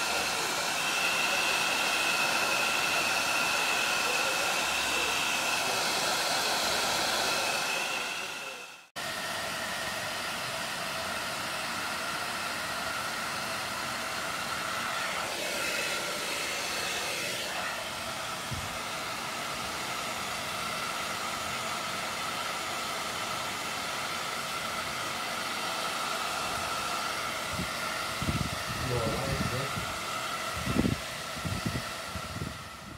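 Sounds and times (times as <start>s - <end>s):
hair dryer blowing air: 0.0s - 32.9s.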